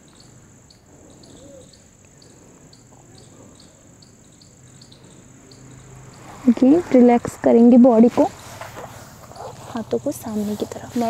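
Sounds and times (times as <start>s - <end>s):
insect chirps: 0.0s - 11.0s
insect trill: 0.0s - 11.0s.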